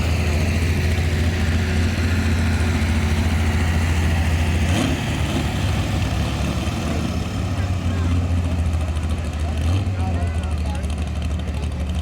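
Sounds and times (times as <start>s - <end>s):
truck engine deep drone: 0.0s - 12.0s.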